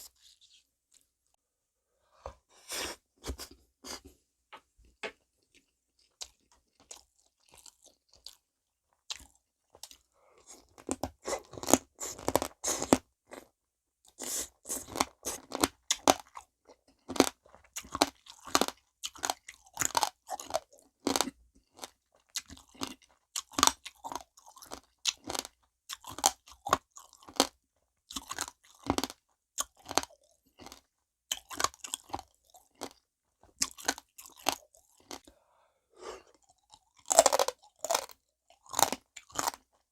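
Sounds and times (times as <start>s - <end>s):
crunching and chewing crab: 5.5s - 35.4s, 36.3s - 39.9s.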